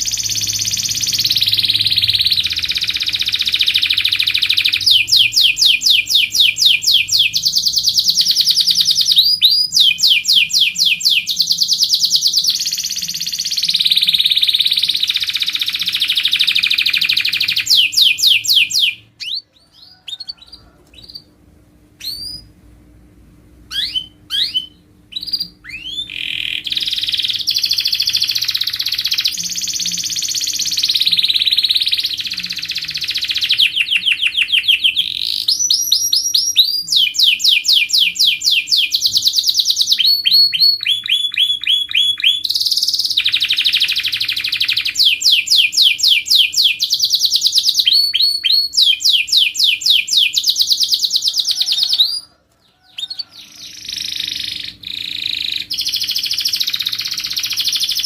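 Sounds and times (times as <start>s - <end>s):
canary singing trills: 0.0s - 21.4s, 22.0s - 22.6s, 23.7s - 58.0s.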